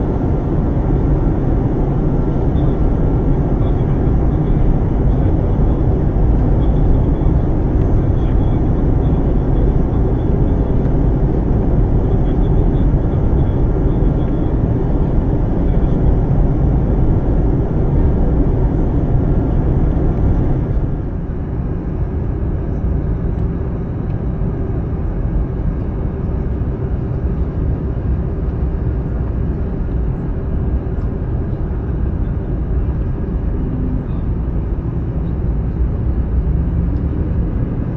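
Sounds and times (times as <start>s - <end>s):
jet cabin engine roar: 0.0s - 37.9s.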